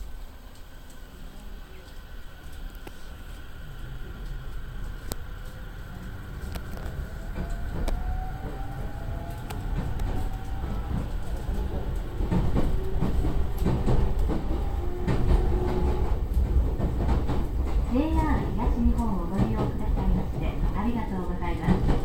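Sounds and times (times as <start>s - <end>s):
train wheels rumbling: 0.0s - 22.0s
wheels clicking over rail joints: 4.2s - 22.0s.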